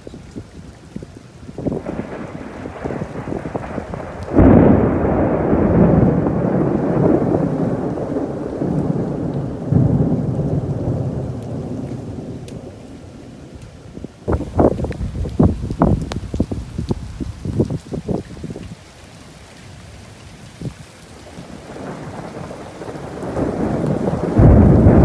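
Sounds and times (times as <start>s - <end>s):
thunder clap and rumble: 1.6s - 18.7s, 21.3s - 25.0s.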